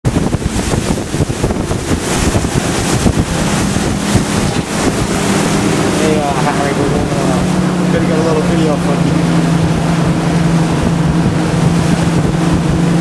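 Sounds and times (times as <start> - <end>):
boat engine hum: 0.0 - 13.0
water: 0.0 - 13.0
wind buffeting microphone: 0.0 - 13.0.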